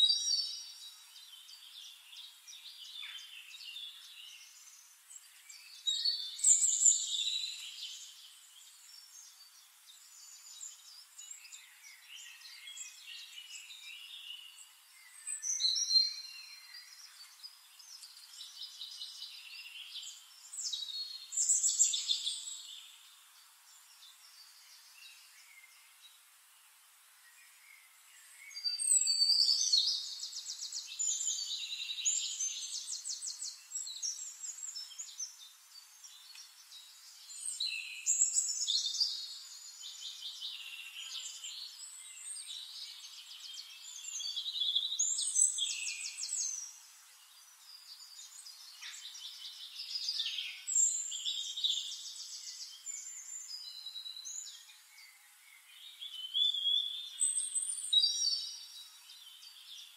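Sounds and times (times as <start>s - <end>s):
songbirds trilling and warbling: 0.0s - 59.9s.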